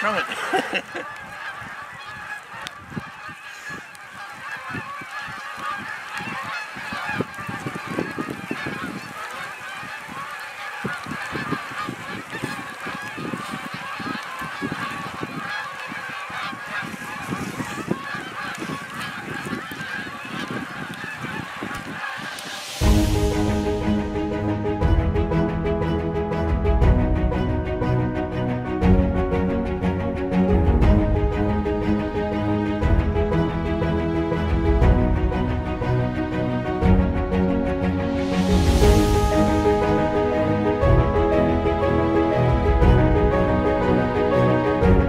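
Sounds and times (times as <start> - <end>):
geese honking: 0.0 - 45.0.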